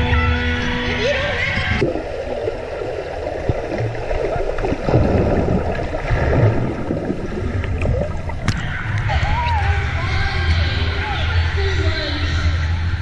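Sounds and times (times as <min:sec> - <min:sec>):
muffled underwater churning: 0:01.4 - 0:13.0.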